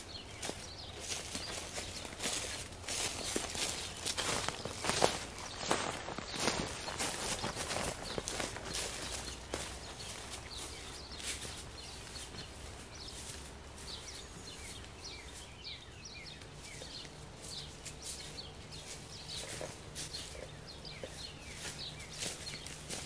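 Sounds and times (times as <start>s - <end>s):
footsteps on dry leaves: 0.0s - 23.0s
small birds chirping: 0.0s - 23.0s.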